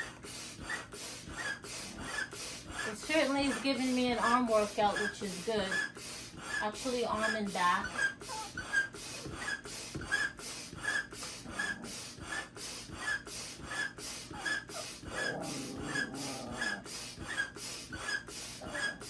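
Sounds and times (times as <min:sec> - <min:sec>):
hand pump rushing air: 0:00.0 - 0:19.0.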